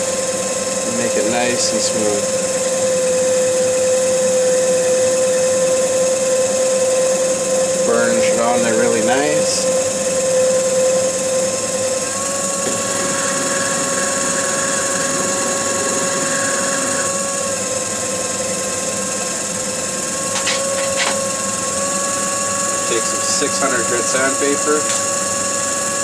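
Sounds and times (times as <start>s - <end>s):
lathe motor whine: 0.0s - 26.0s.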